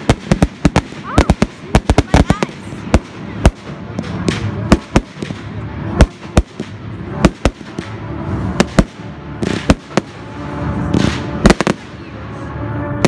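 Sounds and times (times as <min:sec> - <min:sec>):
fireworks bangs: 0:00.0 - 0:12.1
hissing rush of fireworks: 0:00.0 - 0:13.0.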